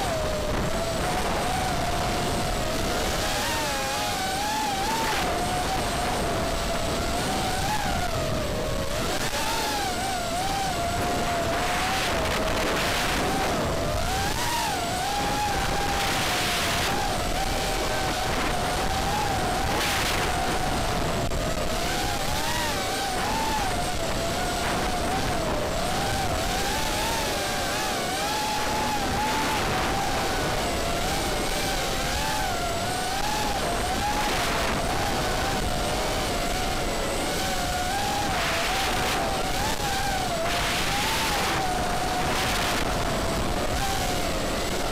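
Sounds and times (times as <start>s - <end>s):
quadcopter motors whining: 0.0s - 44.9s
rush of air noise: 0.0s - 44.9s.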